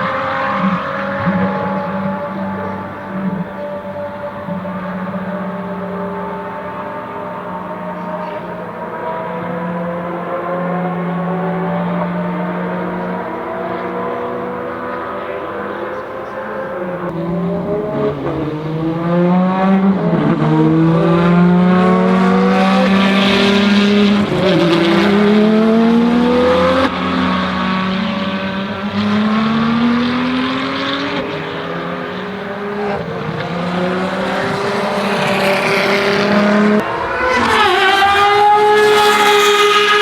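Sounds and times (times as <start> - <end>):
race car engine at full throttle: 0.0 - 40.0.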